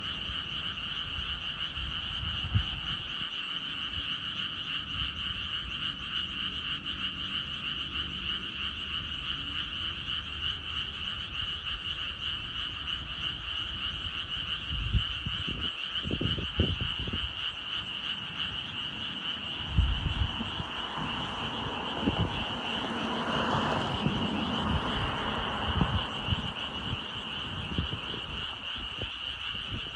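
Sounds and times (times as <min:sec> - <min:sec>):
chorus of frogs calling: 0:00.0 - 0:29.9.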